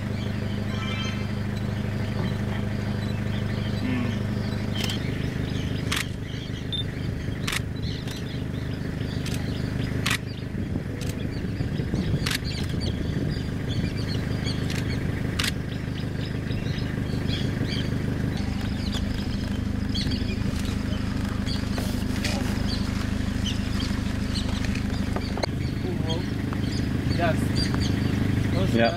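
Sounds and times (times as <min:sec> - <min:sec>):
birds chirping: 0:00.0 - 0:28.9
engine idling: 0:00.0 - 0:28.9.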